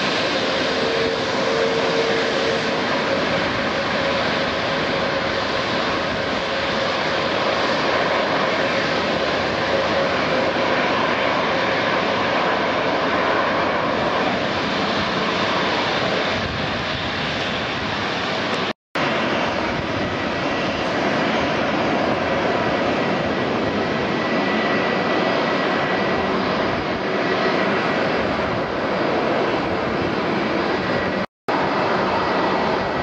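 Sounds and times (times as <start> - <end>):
jet engines at takeoff power: 0.0 - 33.0.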